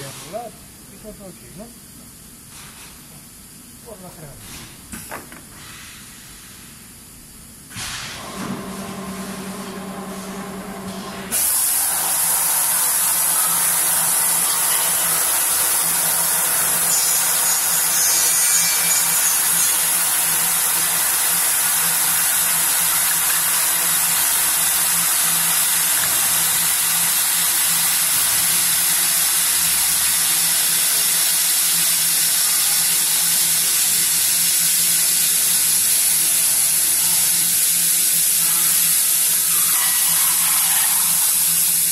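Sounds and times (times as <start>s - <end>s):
cutting machine hiss: 7.7s - 41.9s.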